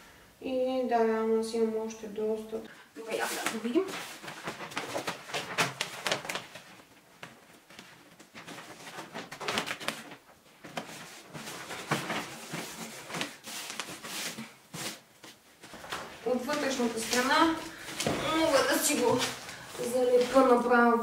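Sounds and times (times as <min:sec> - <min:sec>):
wallpaper rustling and crinkling: 0:02.7 - 0:21.0.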